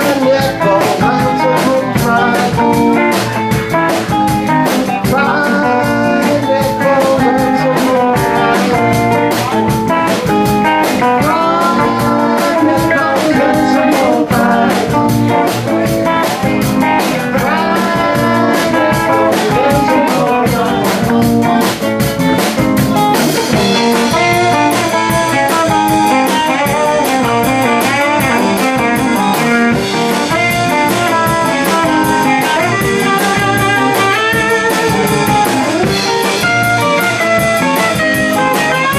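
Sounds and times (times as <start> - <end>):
bass guitar: 0.0 - 38.9
drum kit: 0.0 - 38.9
electric guitars with bent notes: 0.0 - 38.9.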